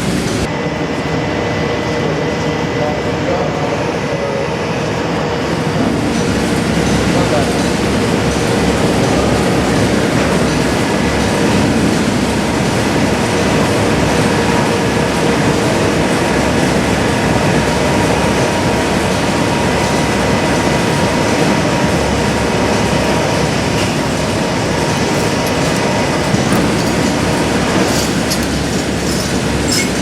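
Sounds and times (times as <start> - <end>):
industrial machinery rumbling hiss: 0.0 - 30.0.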